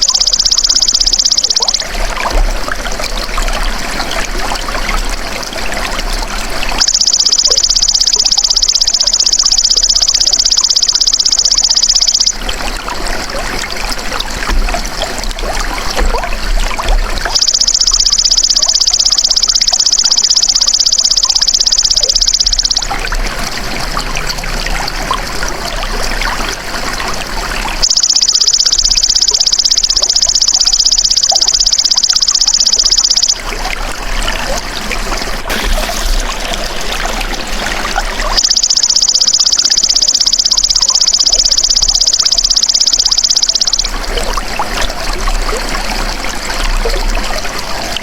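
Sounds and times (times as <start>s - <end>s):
trickling water: 0.0s - 48.0s.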